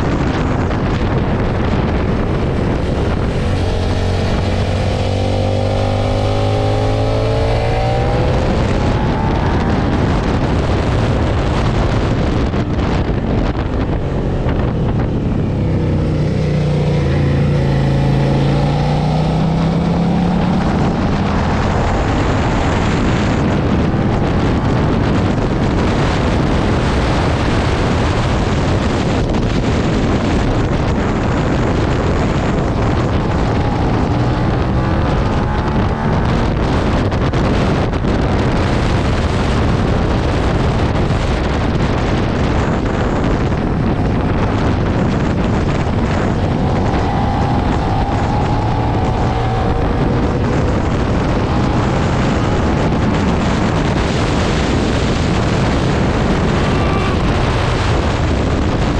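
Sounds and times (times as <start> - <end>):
motorcycle engine running hard: 0.0 - 58.9
wind noise on microphone: 0.0 - 58.9.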